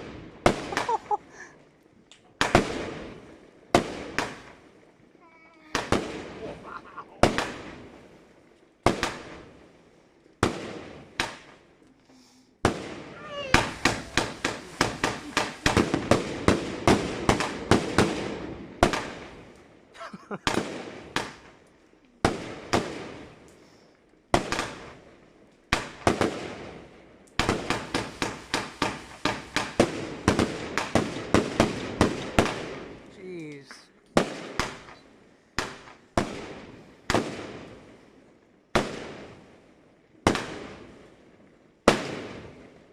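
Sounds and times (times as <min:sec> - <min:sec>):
firework bangs echoing: 0:00.0 - 0:01.5, 0:02.4 - 0:04.9, 0:05.7 - 0:09.8, 0:10.4 - 0:11.7, 0:12.6 - 0:23.6, 0:24.3 - 0:38.0, 0:38.7 - 0:39.6, 0:40.2 - 0:41.2, 0:41.8 - 0:42.9.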